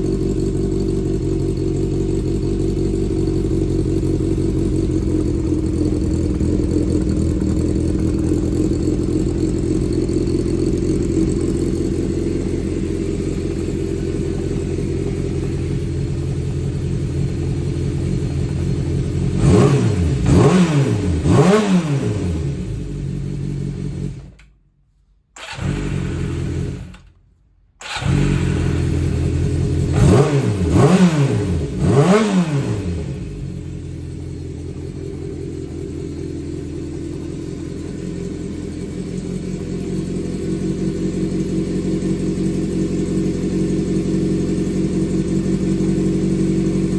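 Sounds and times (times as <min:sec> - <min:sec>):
motorcycle engine idling and revving: 0:00.0 - 0:24.5, 0:25.4 - 0:27.2, 0:27.8 - 0:46.9.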